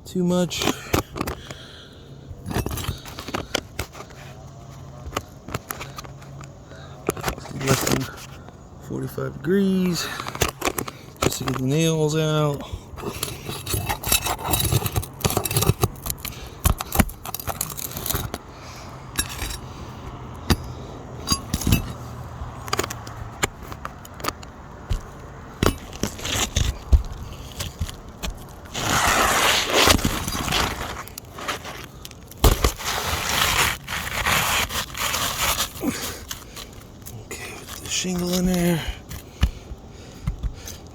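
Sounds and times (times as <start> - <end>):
tool scraping roof shingles: 0.5 - 40.9.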